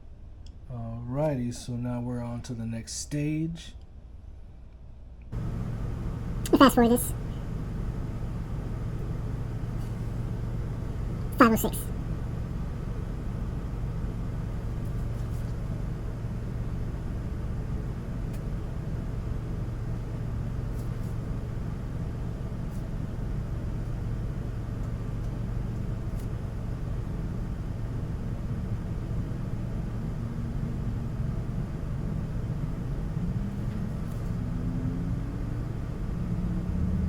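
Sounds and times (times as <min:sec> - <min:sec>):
low rumbling hum: 0:00.0 - 0:37.0.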